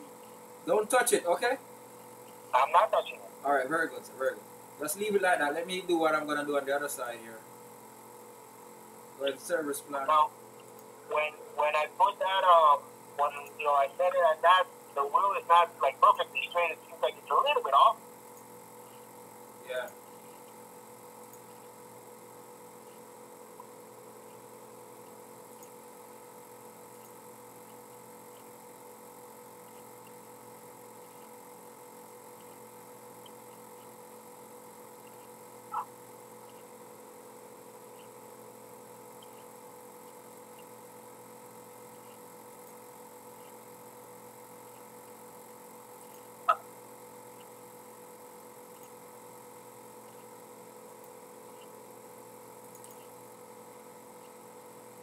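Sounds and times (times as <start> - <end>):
faint electrical hum: 0.0 - 55.0.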